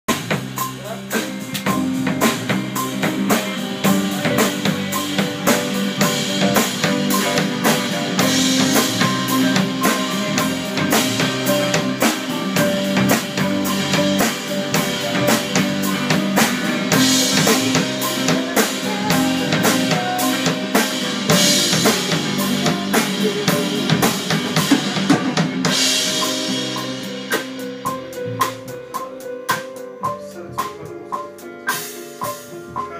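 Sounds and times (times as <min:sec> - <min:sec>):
busy drum kit: 0:00.0 - 0:32.9
low bass notes: 0:00.1 - 0:31.2
band playing a song: 0:00.1 - 0:32.9.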